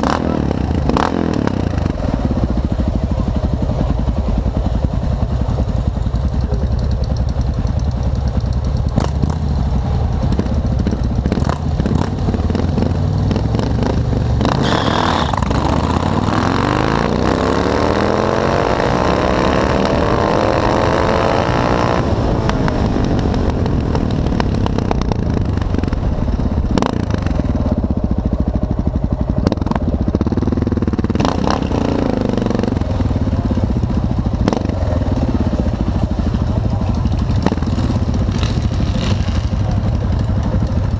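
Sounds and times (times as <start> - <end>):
motorcycle engine idling: 0.0 - 16.3, 22.5 - 40.9
motorcycle accelerating hard: 0.0 - 40.9.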